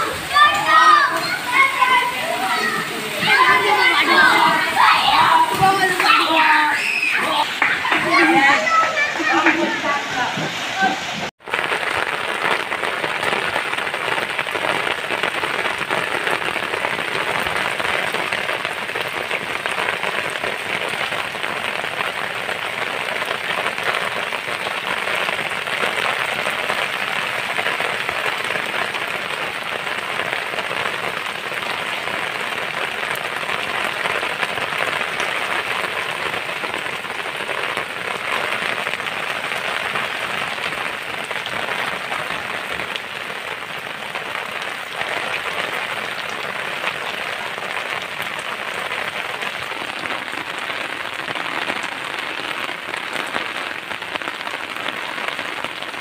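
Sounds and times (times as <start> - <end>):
heavy rain falling on water: 0.0 - 56.0.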